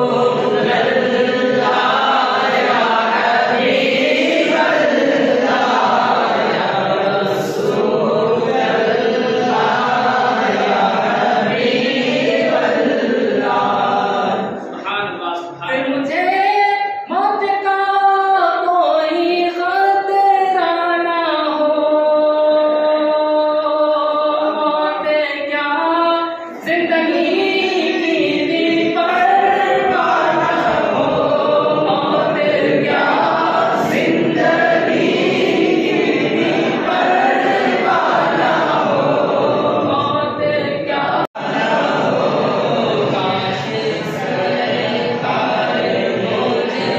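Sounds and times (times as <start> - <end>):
group of men singing: 0.0 - 14.9, 15.8 - 46.9.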